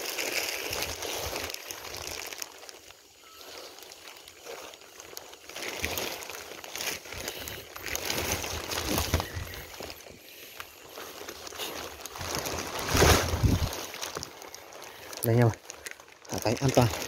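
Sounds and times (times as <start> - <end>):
bushes rustling: 0.0 - 17.0.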